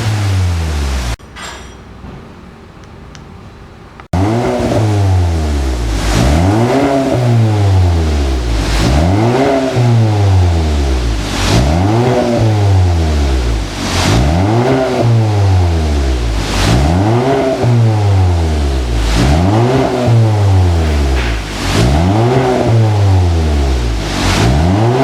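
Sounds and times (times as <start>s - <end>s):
car engine revving: 0.0s - 1.2s, 4.1s - 25.0s.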